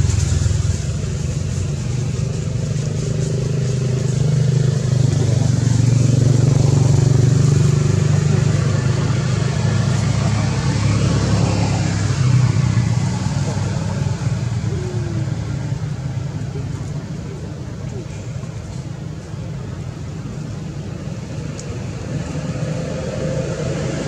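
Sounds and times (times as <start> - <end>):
motor engine humming: 0.0 - 22.2.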